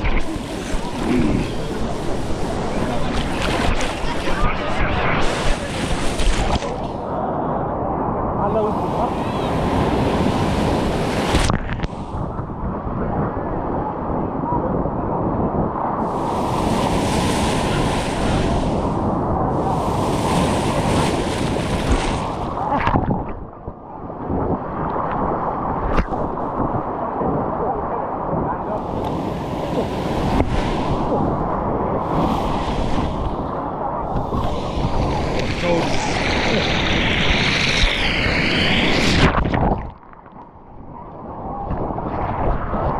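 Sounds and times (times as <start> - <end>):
sea surf: 0.0 - 42.9
wind rumbling on microphone: 0.0 - 42.9.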